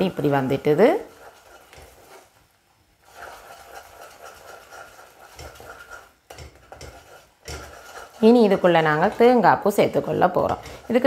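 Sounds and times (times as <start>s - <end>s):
wooden spatula scraping pot: 0.0s - 11.0s.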